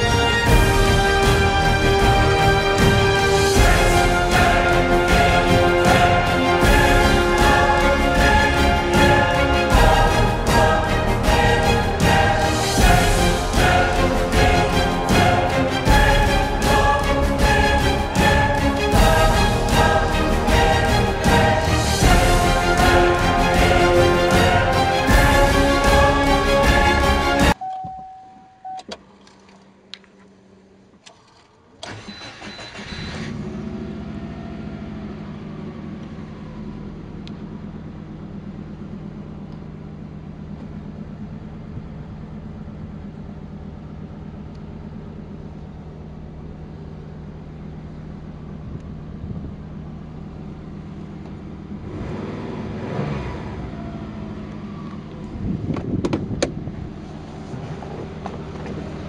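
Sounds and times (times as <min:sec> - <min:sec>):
car engine starting and idling: 0:00.0 - 0:59.0.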